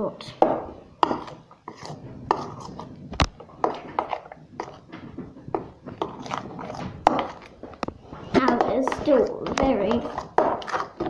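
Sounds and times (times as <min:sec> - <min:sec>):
slime stirred in a bowl: 0:00.4 - 0:11.0.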